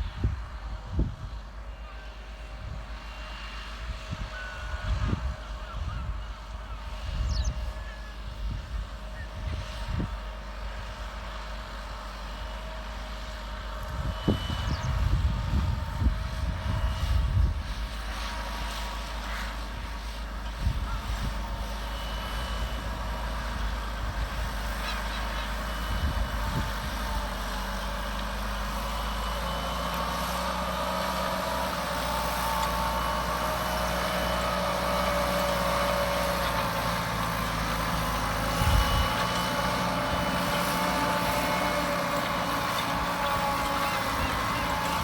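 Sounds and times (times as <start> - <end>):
tractor engine under load: 6.2 - 45.0.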